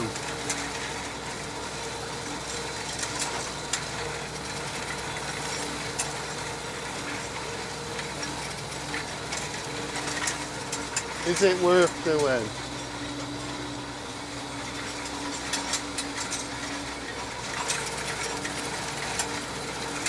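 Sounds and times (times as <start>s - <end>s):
tractor engine droning: 0.0s - 20.0s.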